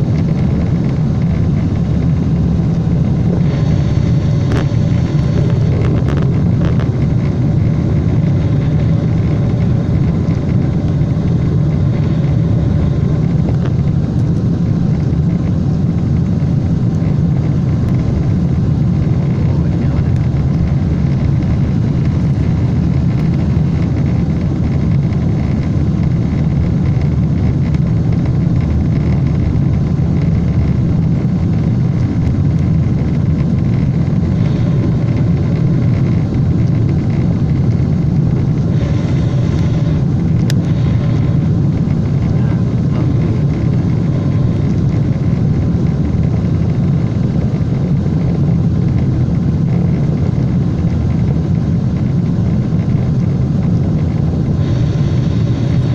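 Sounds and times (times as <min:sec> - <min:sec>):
jet engine rumble: 0:00.0 - 0:55.9
rushing air: 0:00.0 - 0:55.9.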